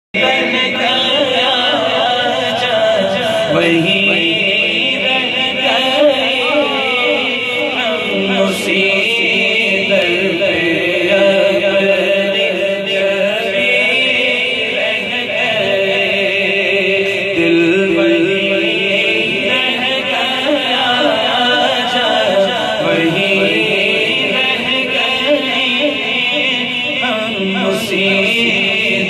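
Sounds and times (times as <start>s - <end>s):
man singing through pa system: 0.1s - 29.0s.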